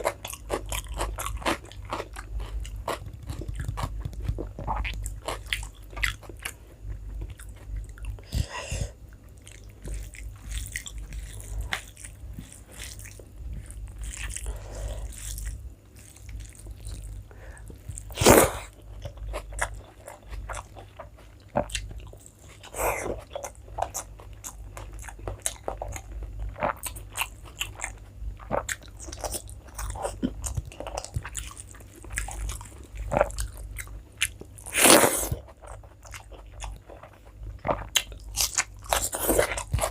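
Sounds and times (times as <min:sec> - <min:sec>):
chewing and biting food: 0:00.0 - 0:08.4, 0:09.1 - 0:39.9.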